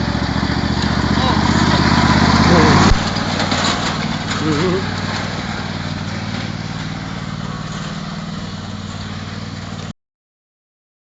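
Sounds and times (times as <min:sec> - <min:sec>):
tractor engine running under load: 0:00.0 - 0:09.9.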